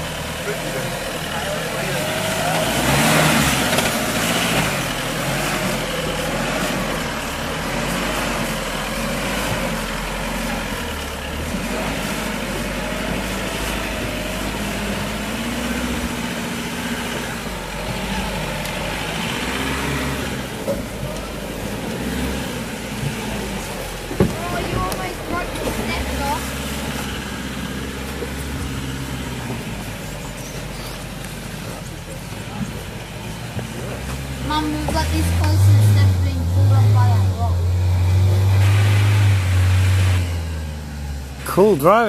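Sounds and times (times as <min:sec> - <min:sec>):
diesel truck engine at low revs: 0:00.0 - 0:42.0.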